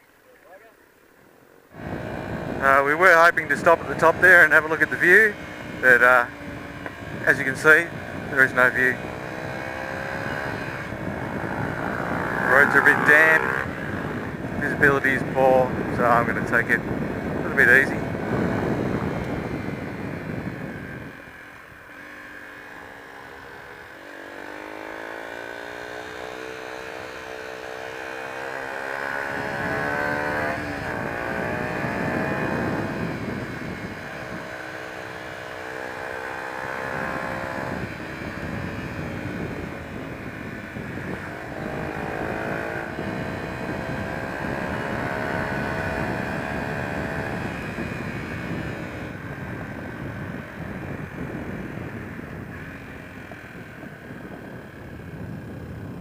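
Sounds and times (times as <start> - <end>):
wind and road noise: 0.0 - 56.0
motorcycle engine running: 1.5 - 56.0.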